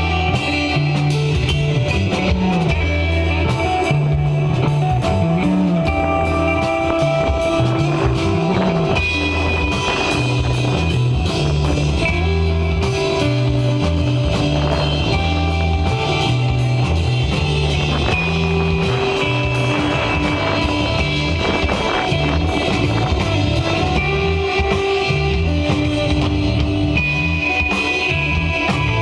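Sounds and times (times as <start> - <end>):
bass line: 0.0 - 29.0
drum kit beat: 0.0 - 29.0
electric guitar: 0.0 - 29.0.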